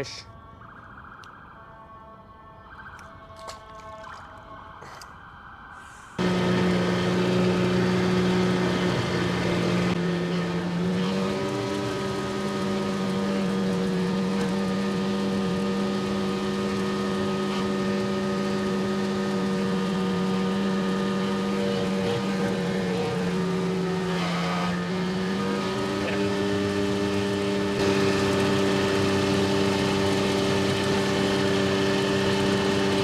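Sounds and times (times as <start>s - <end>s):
boat motor running: 6.2s - 33.0s.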